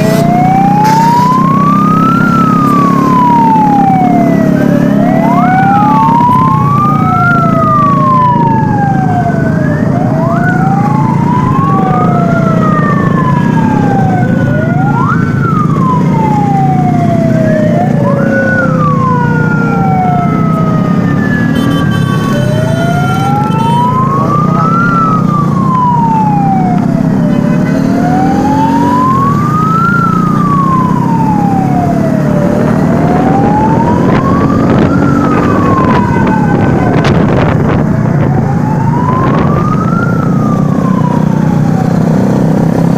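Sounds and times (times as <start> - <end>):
low rumble of engines: 0.0 - 42.9
siren rising sharply: 0.0 - 42.9
siren wailing slowly: 0.0 - 42.9.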